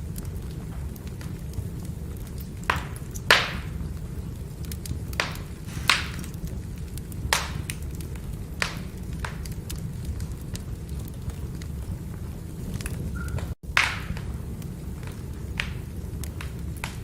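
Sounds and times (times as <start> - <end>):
low rumble of flames: 0.0 - 17.0
firewood crackling pops: 0.2 - 17.0.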